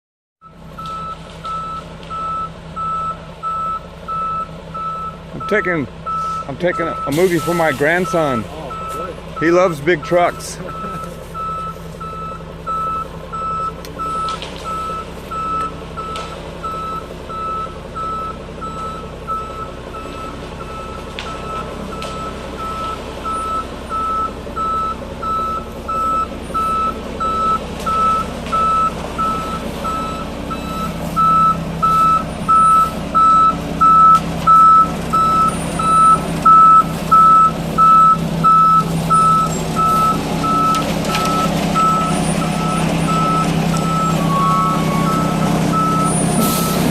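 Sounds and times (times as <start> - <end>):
diesel engine running: 0.4 - 46.9
reversing alarm beeps: 0.4 - 46.9.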